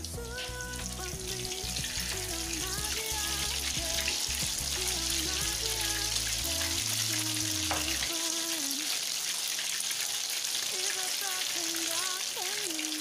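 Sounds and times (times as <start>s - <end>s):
egg sizzling in hot oil: 0.0s - 13.0s.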